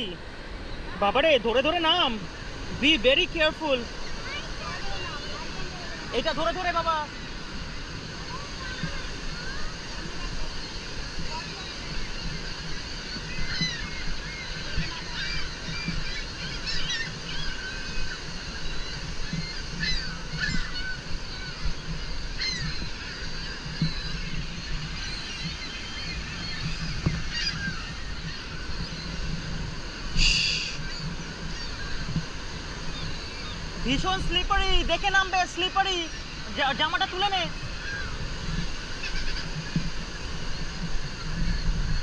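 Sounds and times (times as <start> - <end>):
gulls calling: 0.0 - 42.0
rushing river water: 0.0 - 42.0.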